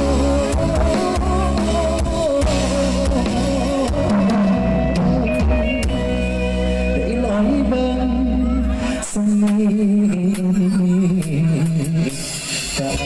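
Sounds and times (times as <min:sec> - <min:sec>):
man singing into a microphone: 0:00.0 - 0:06.0, 0:06.8 - 0:13.0
deep bass: 0:00.0 - 0:12.1
live band music: 0:00.0 - 0:13.0.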